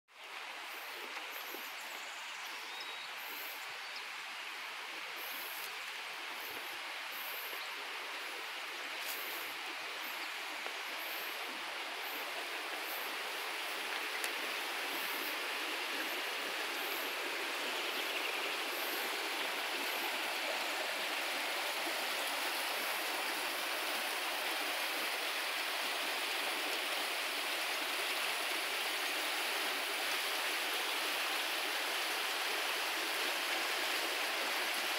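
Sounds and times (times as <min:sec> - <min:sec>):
stream rushing: 0:00.2 - 0:34.9.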